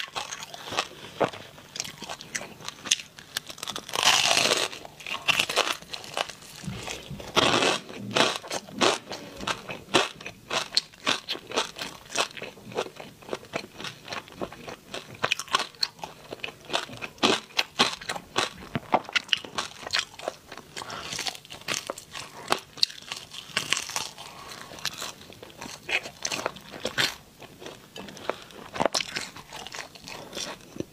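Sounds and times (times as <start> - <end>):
person chewing crispy food: 0.0 - 30.9.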